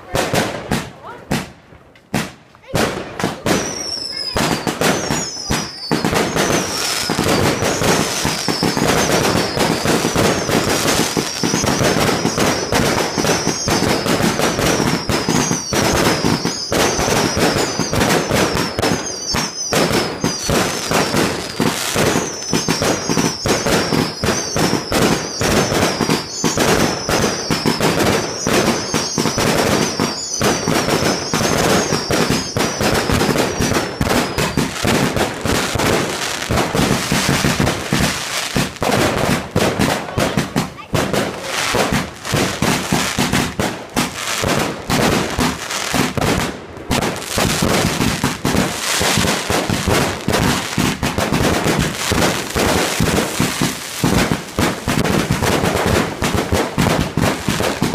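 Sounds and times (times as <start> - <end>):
fireworks bangs and crackles: 0.0 - 57.9
fireworks whistles: 2.2 - 57.9.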